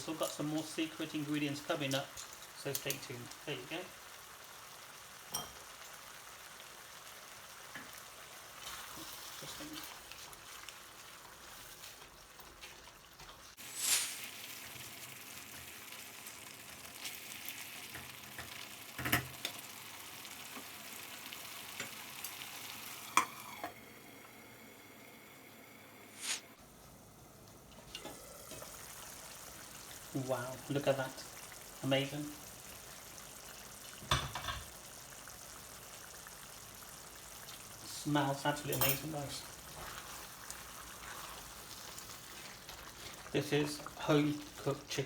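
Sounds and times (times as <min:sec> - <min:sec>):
curry sizzling in a pan: 0:00.0 - 0:45.0.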